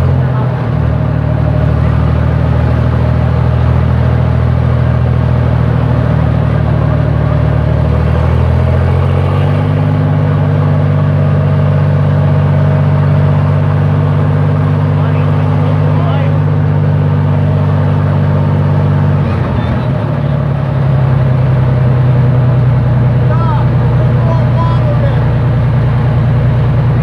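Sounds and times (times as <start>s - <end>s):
fire engine running hard: 0.0s - 27.0s.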